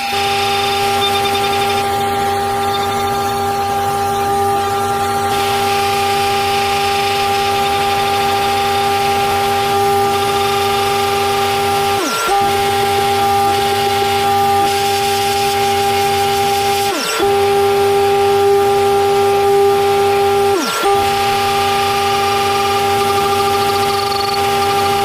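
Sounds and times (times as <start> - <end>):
cnc machine whine: 0.0 - 25.0.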